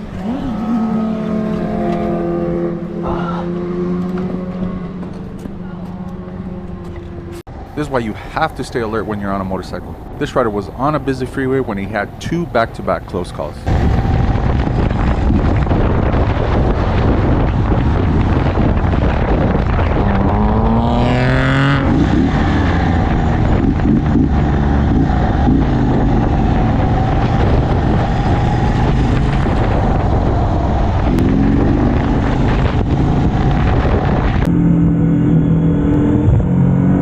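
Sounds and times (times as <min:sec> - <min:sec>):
motorcycle engine revving: 0:00.0 - 0:07.5, 0:13.7 - 0:37.0
wind and road noise: 0:00.0 - 0:37.0.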